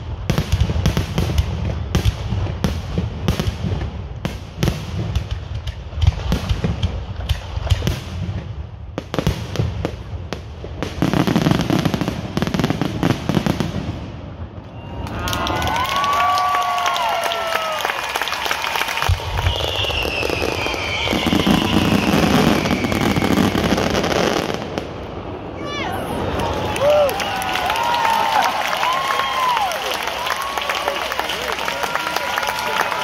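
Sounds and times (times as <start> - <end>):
fireworks bangs and crackles: 0.0 - 27.1.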